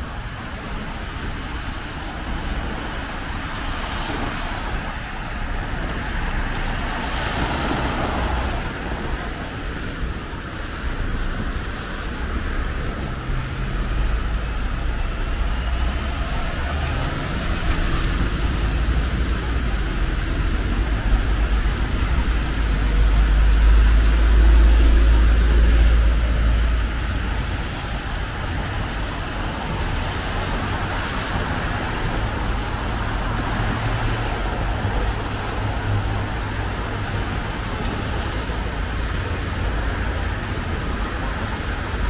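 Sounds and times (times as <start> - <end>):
traffic on wet road: 0.0 - 42.0.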